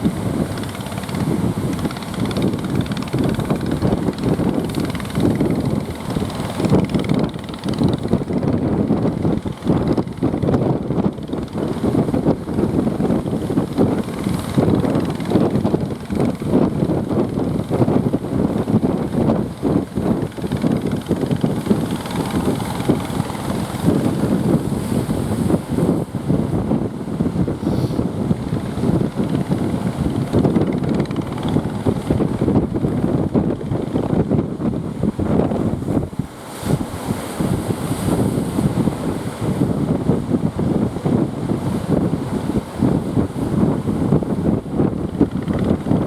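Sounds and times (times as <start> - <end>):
heavy surf: 0.0 - 46.0
wind buffeting microphone: 0.0 - 46.0.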